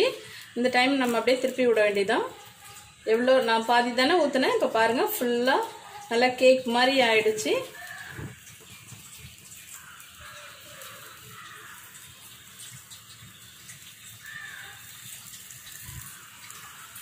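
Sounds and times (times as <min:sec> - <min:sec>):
batter sizzling in oil: 0:00.0 - 0:17.0.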